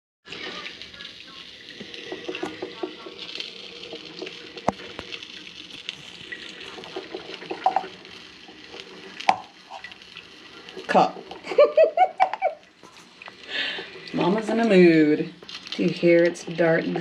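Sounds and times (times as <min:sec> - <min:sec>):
coffee maker bubbling: 0:00.3 - 0:17.0.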